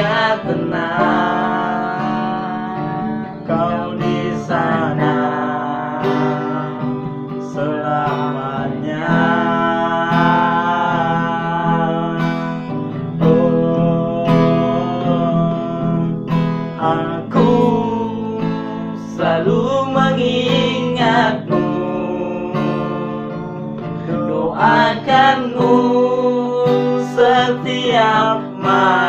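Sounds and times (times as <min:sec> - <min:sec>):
acoustic guitar strumming chords: 0:00.0 - 0:29.0
person singing a slow ballad: 0:00.0 - 0:29.0.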